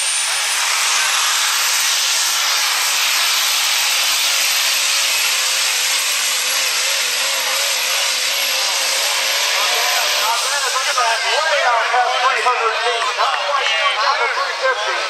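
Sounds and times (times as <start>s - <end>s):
diesel truck engine howling: 0.0s - 15.0s.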